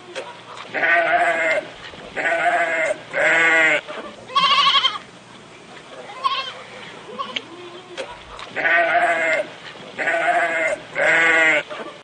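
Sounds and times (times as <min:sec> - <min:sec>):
sheep bleating: 0:00.7 - 0:05.0, 0:06.1 - 0:11.8.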